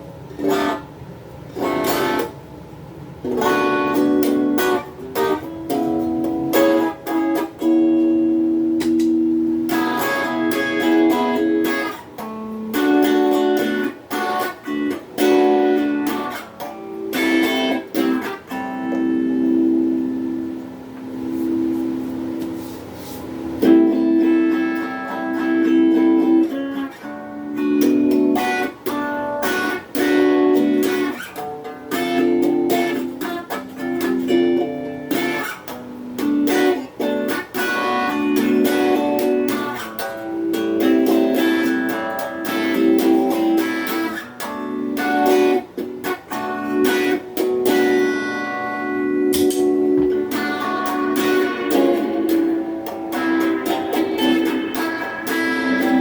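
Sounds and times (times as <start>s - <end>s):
clean electric guitar chords: 3.2s - 22.5s, 23.6s - 56.0s.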